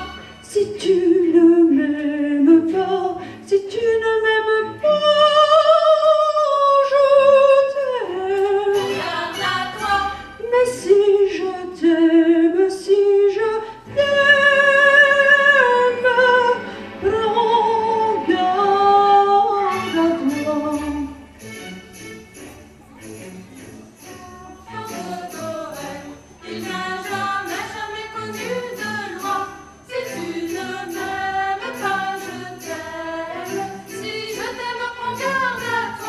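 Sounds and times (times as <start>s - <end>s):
women singing a cappella: 0.0s - 21.1s, 24.2s - 36.0s.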